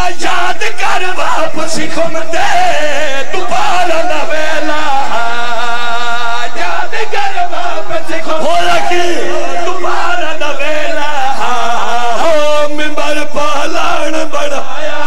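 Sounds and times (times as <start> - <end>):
men chanting over loudspeakers: 0.0 - 15.0.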